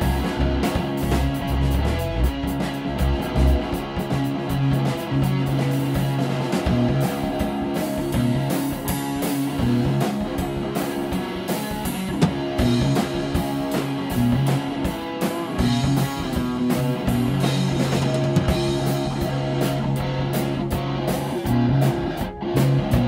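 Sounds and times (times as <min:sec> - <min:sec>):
bass line: 0:00.0 - 0:23.0
drum beat: 0:00.0 - 0:23.0
electric guitar notes: 0:00.0 - 0:23.0.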